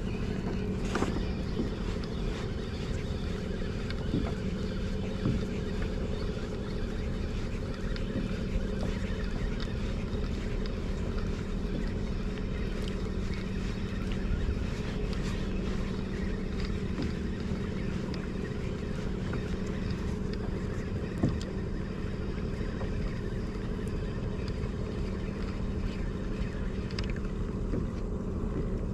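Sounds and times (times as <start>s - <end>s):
low hum: 0.0s - 28.9s
water noise: 0.0s - 28.9s.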